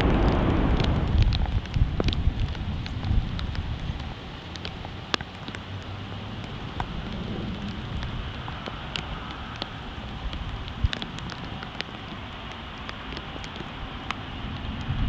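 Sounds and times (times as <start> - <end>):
aircraft taxiing rumble: 0.0 - 15.0
heavy rain falling: 0.0 - 15.0
raindrops tapping close by: 0.0 - 15.0.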